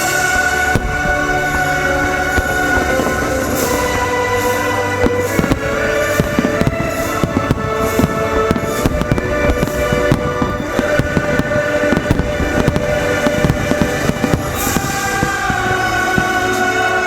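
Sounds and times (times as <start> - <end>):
christmas music: 0.0 - 17.0
fireworks bursting and crackling: 0.0 - 17.0.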